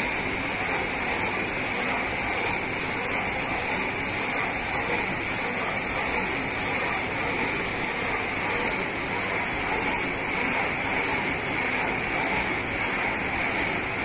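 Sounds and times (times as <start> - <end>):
machine whirring and hissing: 0.0 - 14.0.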